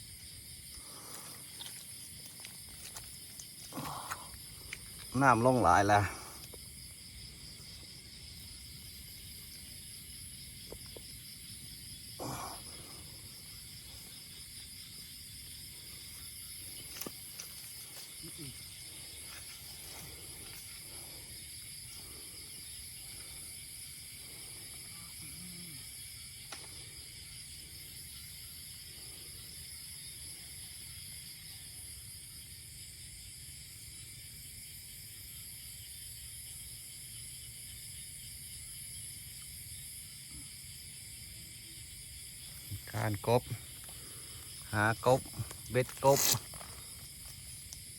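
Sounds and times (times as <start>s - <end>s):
night insects trilling: 0.0s - 47.9s.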